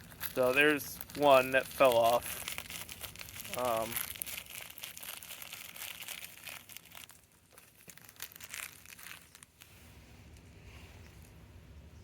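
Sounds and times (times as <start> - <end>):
packaging crinkling and rustling: 0.0 - 10.5.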